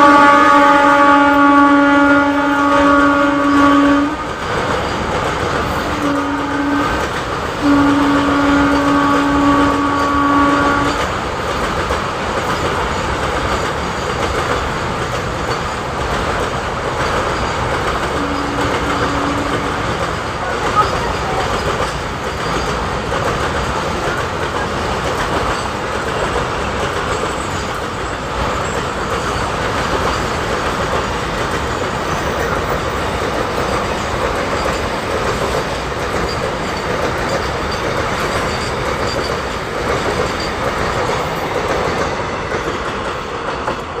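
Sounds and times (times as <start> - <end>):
freight train rumble: 0.0 - 44.0
wheels clacking over rail joints: 3.0 - 44.0.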